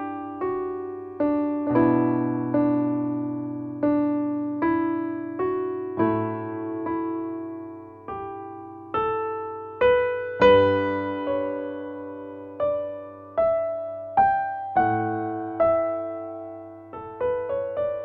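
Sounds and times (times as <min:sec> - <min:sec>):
soft electric piano: 0:00.0 - 0:18.0.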